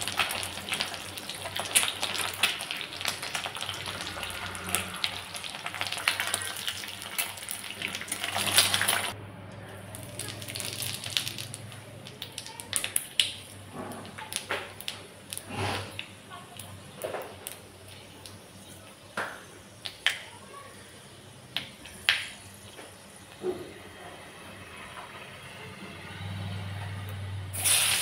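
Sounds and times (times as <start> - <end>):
oil sizzling and crackling: 0.0 - 9.2, 9.8 - 23.4, 27.5 - 28.0.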